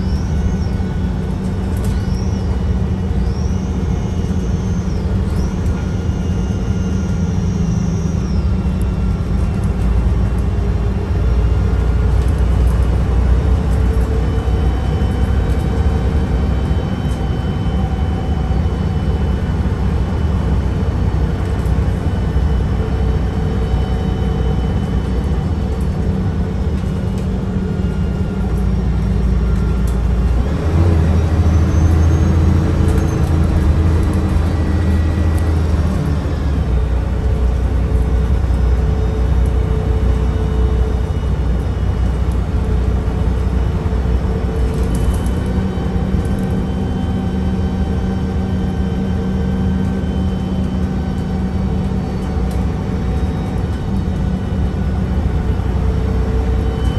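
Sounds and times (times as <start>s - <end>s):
bus engine drone: 0.0s - 56.9s
transmission whine: 0.0s - 56.9s.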